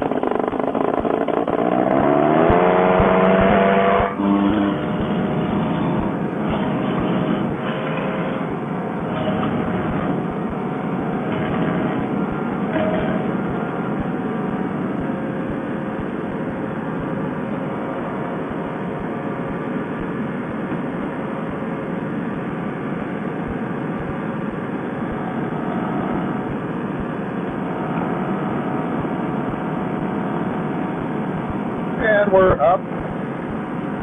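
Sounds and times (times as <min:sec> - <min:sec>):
paramotor engine and propeller: 0:00.0 - 0:34.0.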